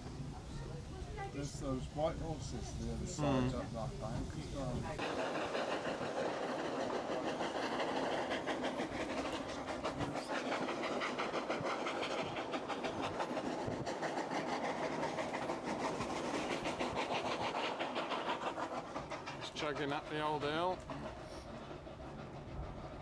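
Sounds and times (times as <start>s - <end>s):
steam locomotive chugging: 0.0s - 23.0s
train running noise: 0.0s - 23.0s.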